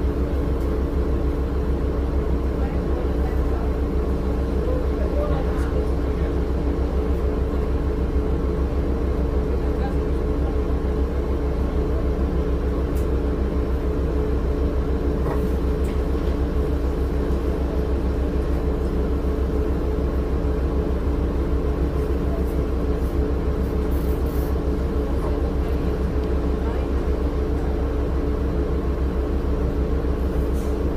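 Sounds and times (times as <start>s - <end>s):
bus diesel engine from inside: 0.0s - 30.9s.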